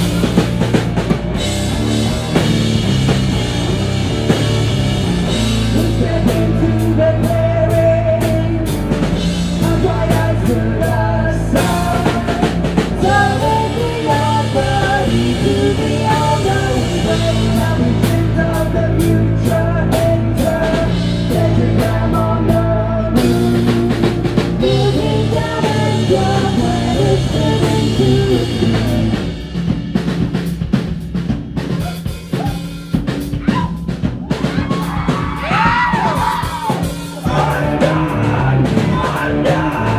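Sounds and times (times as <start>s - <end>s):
drum kit playing: 0.0s - 39.9s
heavy electric guitar: 0.0s - 39.9s.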